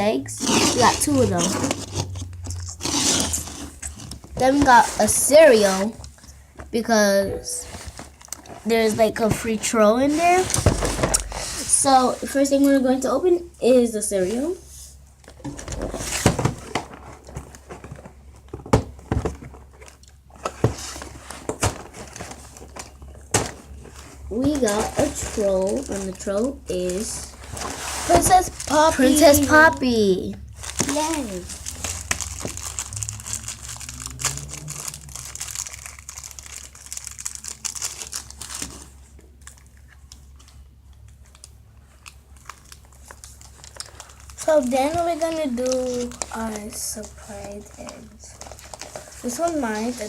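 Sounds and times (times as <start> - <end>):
cardboard and packaging rustling: 0.0 - 13.2, 14.0 - 50.0.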